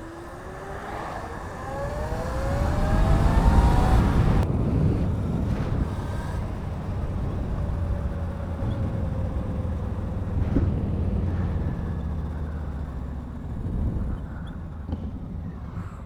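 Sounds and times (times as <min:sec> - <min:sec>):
faint electric motor whine: 0:00.0 - 0:16.0
scooter riding rumble: 0:00.0 - 0:16.0.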